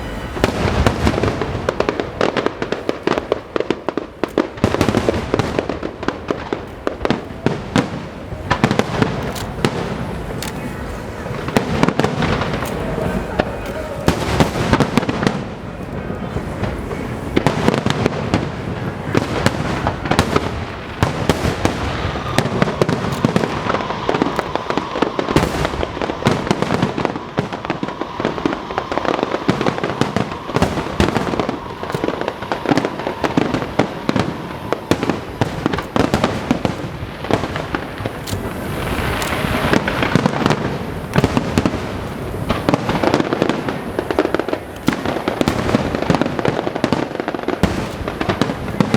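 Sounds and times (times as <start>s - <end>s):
fireworks hissing crackle: 0.0s - 48.9s.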